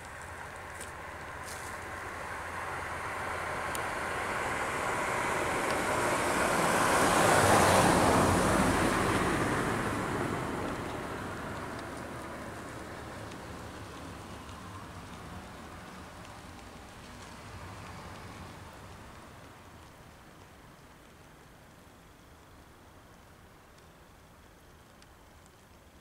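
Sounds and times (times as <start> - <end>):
vehicle passing on road: 0.0 - 23.2.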